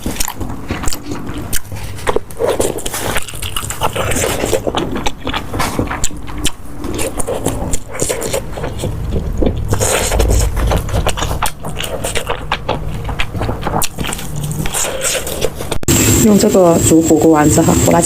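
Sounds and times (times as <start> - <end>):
chewing and wet mouth noises: 0.0 - 15.9.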